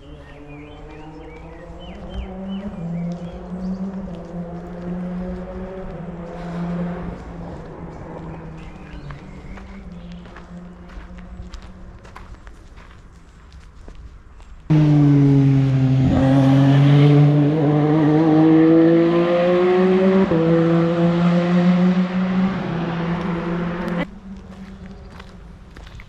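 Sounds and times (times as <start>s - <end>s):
racing car engine accelerating: 0.0s - 10.9s, 14.7s - 25.1s.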